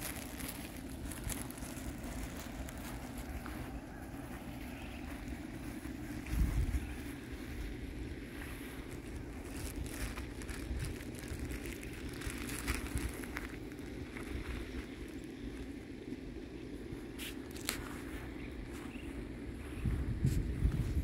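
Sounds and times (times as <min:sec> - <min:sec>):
faint crackles and rustles: 0:00.0 - 0:21.0
wind rumbling on microphone: 0:00.0 - 0:21.0.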